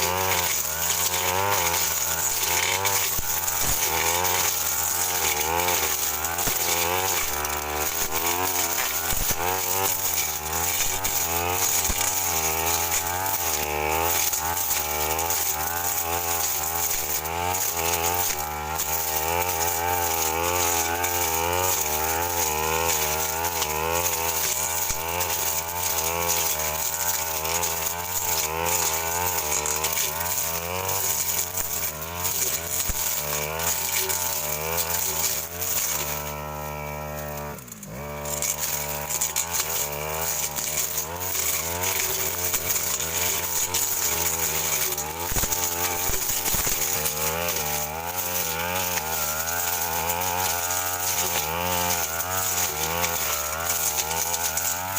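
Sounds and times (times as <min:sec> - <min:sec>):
blade cutting through scrub: 0:00.0 - 0:54.9
brush cutter engine revving: 0:00.0 - 0:54.9.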